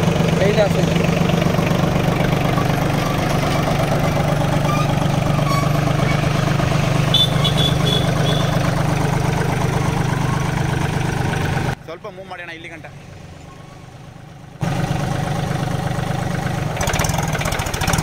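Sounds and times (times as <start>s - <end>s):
tractor diesel engine idling: 0.0s - 18.0s.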